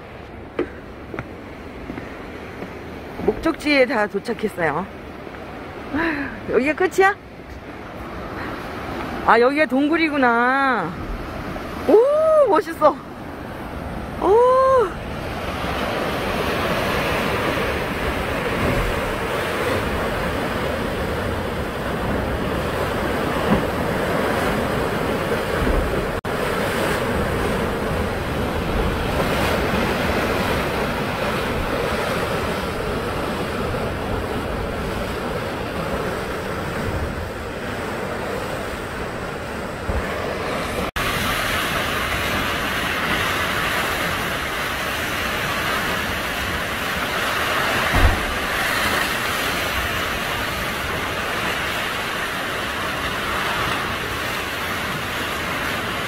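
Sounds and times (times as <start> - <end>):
sea waves surging through gully: 0.0 - 56.0
wind buffeting microphone: 7.5 - 56.0.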